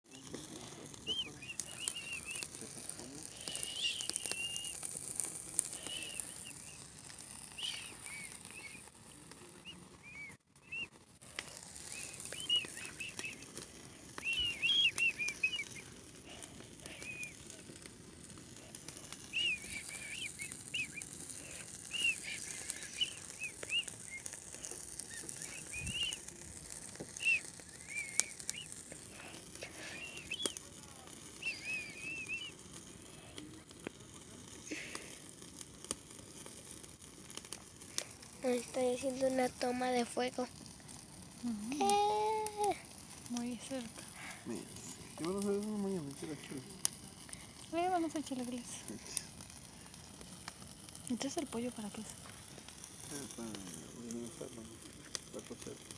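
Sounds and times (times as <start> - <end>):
campfire crackling and hissing: 0.0 - 55.9.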